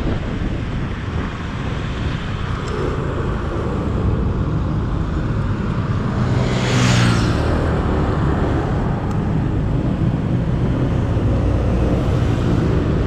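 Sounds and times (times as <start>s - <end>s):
road noise: 0.0s - 13.0s
wind noise: 0.0s - 13.0s.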